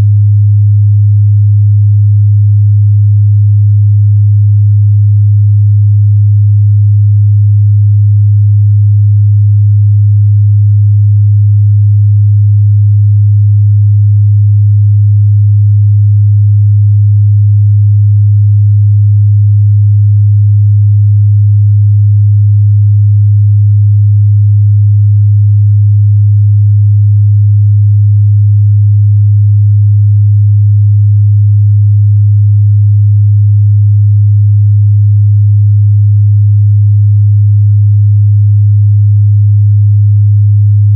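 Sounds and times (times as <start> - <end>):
low sine-wave test tone: 0.0 - 40.9.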